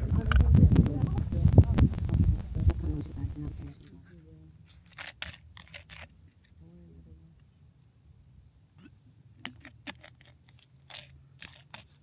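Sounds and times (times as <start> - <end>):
faint insect chirping: 2.2 - 12.0.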